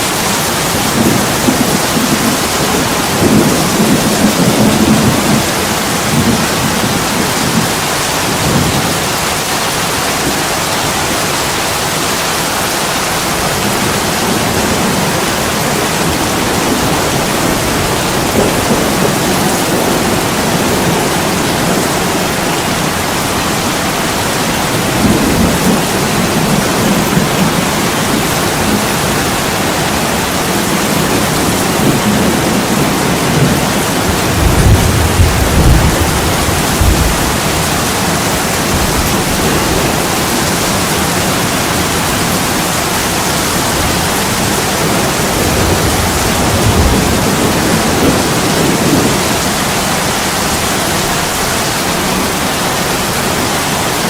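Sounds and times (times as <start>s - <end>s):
heavy rain on window glass: 0.0s - 54.0s.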